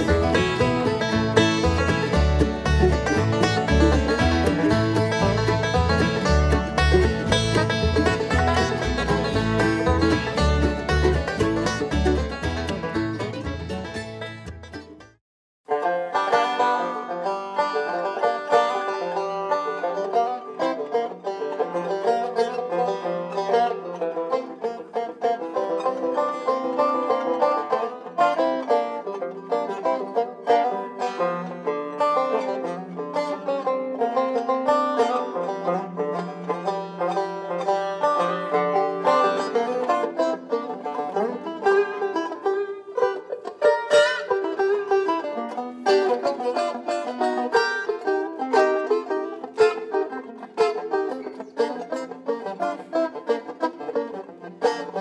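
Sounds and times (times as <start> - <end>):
banjo picking fast notes: 0.0 - 55.0.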